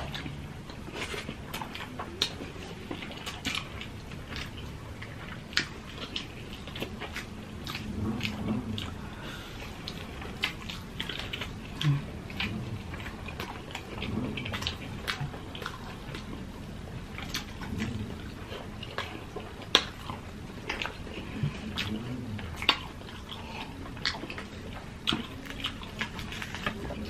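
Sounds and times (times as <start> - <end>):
people chewing and biting: 0.0 - 27.0.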